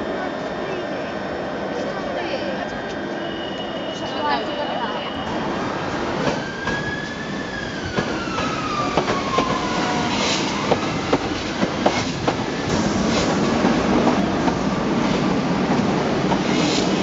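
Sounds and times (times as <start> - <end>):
passenger train rolling past: 0.0 - 17.0.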